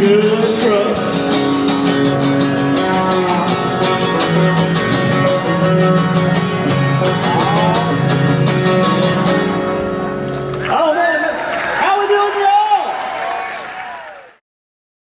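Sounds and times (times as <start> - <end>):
country band playing: 0.0 - 12.6.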